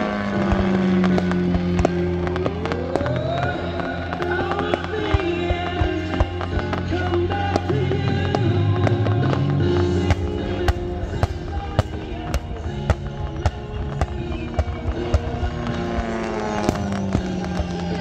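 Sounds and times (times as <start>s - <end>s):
fireworks bangs and crackles: 0.0s - 18.0s
music: 0.0s - 18.0s.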